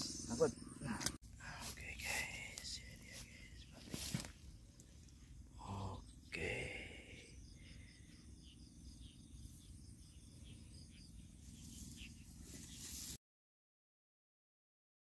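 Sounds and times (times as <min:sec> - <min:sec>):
night insects chirping: 0:00.0 - 0:12.8.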